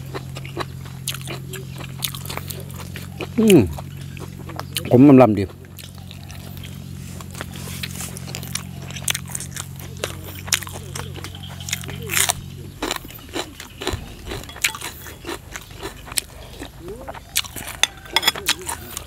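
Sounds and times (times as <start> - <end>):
wet chewing and lip-smacking: 0.0 - 19.0.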